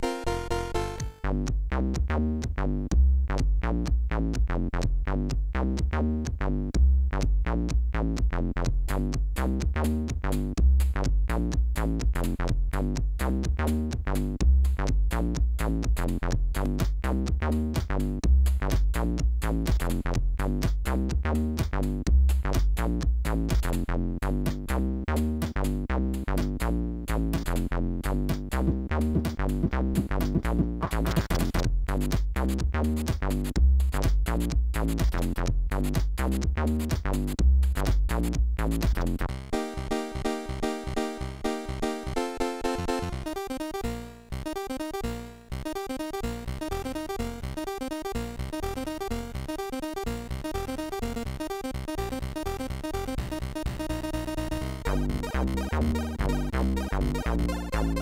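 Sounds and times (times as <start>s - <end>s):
chiptune music with drum beat: 0.0s - 58.0s.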